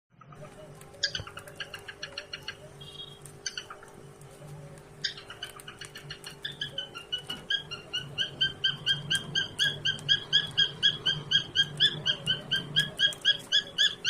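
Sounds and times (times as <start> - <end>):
steady low hum: 0.2 - 14.0
cockatiel chirping: 0.3 - 3.9, 5.0 - 14.0.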